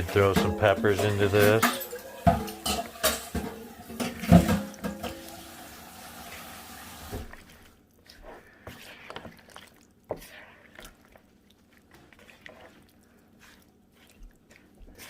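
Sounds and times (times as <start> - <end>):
liquid sloshing and splashing: 0.0 - 15.0.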